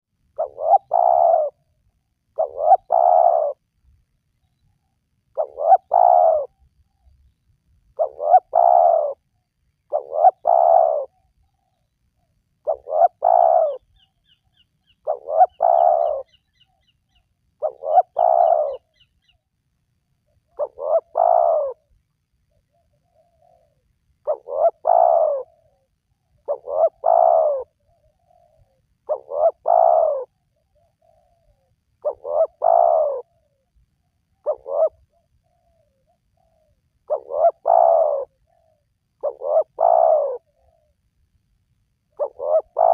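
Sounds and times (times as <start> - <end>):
small bird chirping: 0.4 - 1.6, 2.3 - 19.5, 20.3 - 41.0, 42.1 - 42.9
dove cooing: 0.4 - 3.7, 5.3 - 7.1, 8.0 - 19.4, 20.3 - 33.7, 34.3 - 41.0, 42.1 - 42.9.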